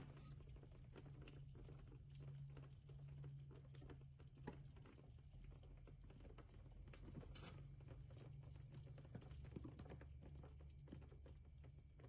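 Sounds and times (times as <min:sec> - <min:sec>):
rain pattering on window glass: 0:00.1 - 0:12.0.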